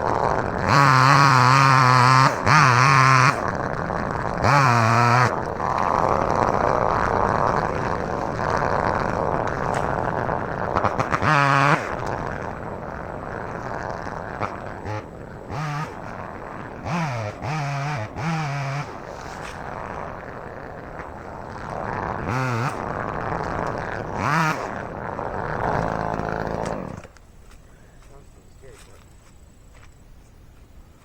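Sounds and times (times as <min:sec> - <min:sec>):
chainsaw revving and cutting: 0:00.0 - 0:27.2.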